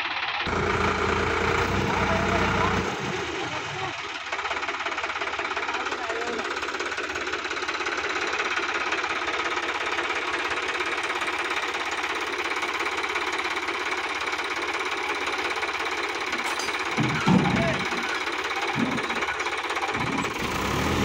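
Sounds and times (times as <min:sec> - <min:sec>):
tractor diesel engine clatter: 0:00.0 - 0:21.0.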